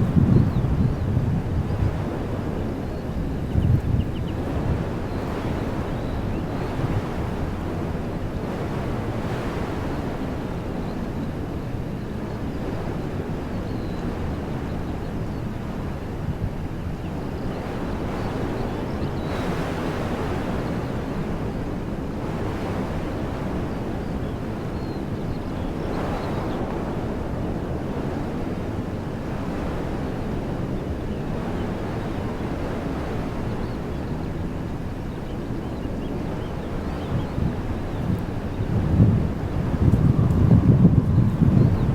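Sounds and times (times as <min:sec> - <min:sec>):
wind blowing through trees: 0:00.0 - 0:41.9.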